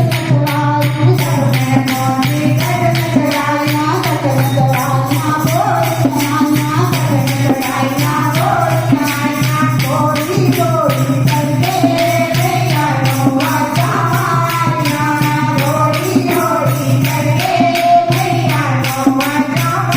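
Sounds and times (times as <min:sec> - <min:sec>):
devotional song singing: 0:00.0 - 0:19.9
jingling hand percussion: 0:00.0 - 0:19.9.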